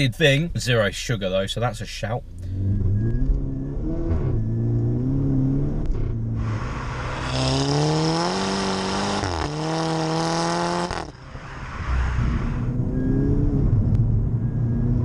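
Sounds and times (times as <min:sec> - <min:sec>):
car exhaust under hard acceleration: 0:02.2 - 0:15.0.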